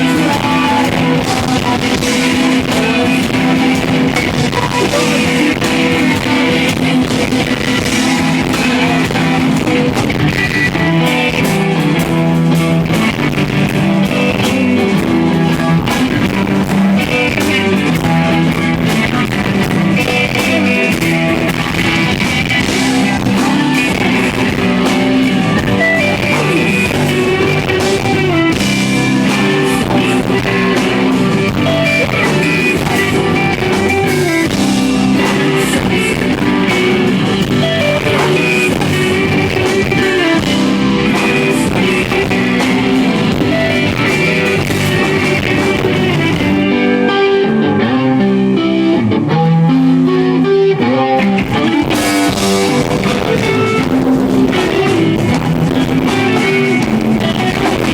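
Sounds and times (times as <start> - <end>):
electric guitars: 0.0 - 57.9
live rock band playing: 0.0 - 57.9.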